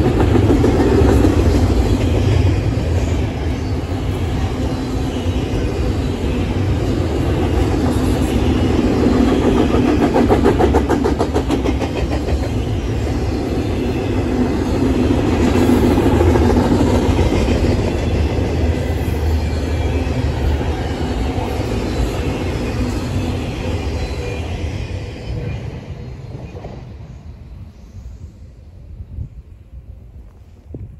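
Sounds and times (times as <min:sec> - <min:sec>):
freight train rolling past: 0:00.0 - 0:30.9.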